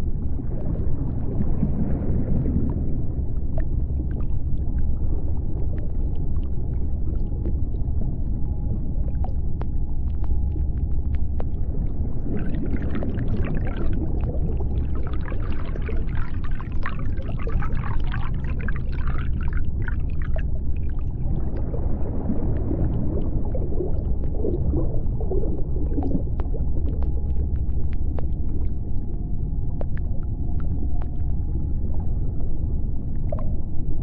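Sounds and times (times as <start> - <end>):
deep underwater rumble: 0.0 - 34.0.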